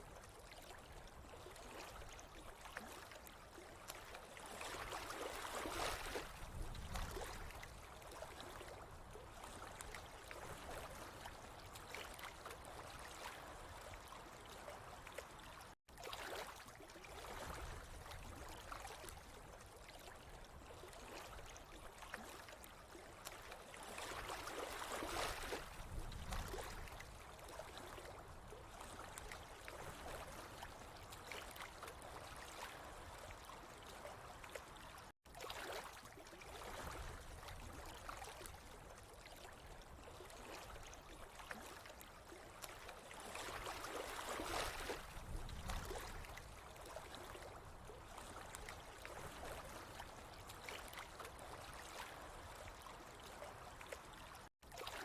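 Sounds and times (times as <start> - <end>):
water rushing and trickling: 0.0 - 55.0.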